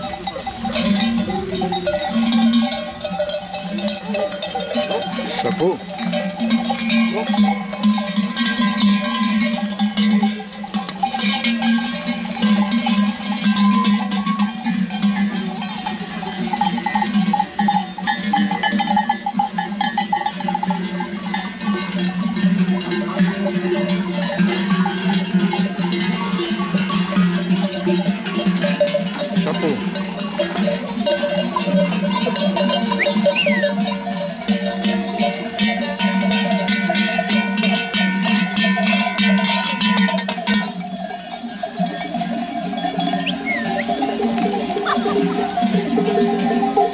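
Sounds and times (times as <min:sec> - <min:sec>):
sheep and goat bells clanging: 0:00.0 - 0:46.9.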